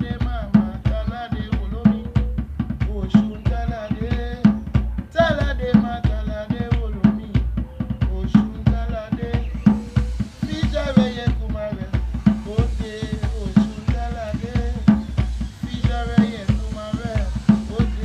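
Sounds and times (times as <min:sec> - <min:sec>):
drum-kit beat: 0:00.0 - 0:18.0.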